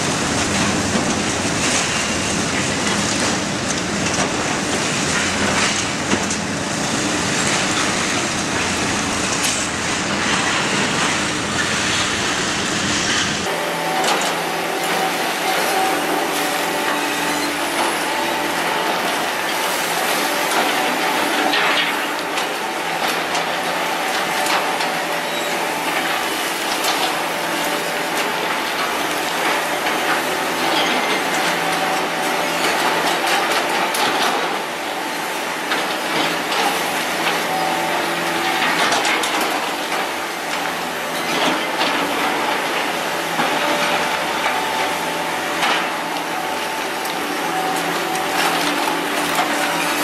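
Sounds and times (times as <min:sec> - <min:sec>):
excavator engines running: 0:00.0 - 0:50.0
machine hum: 0:00.0 - 0:50.0.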